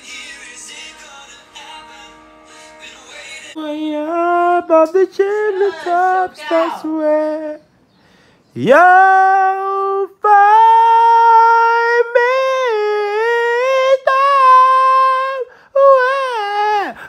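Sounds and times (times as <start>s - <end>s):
person singing long notes: 0.0s - 7.6s, 8.6s - 17.0s.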